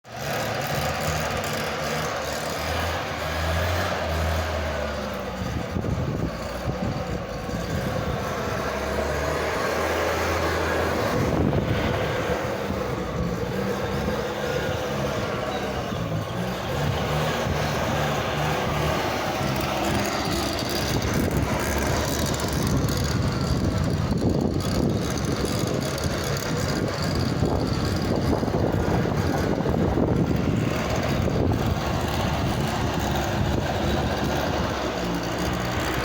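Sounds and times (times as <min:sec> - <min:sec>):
thermal fogger droning: 0:00.1 - 0:36.0.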